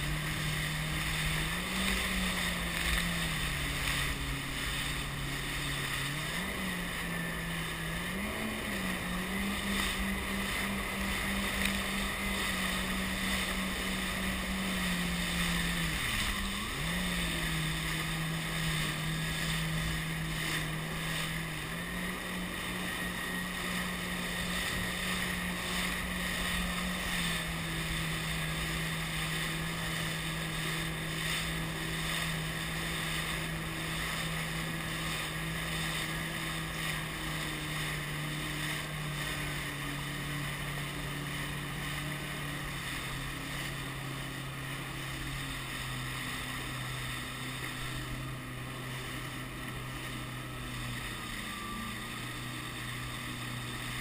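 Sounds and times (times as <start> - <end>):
jet ski engine: 0.0 - 54.0
water rushing: 0.0 - 54.0
wind: 0.0 - 54.0.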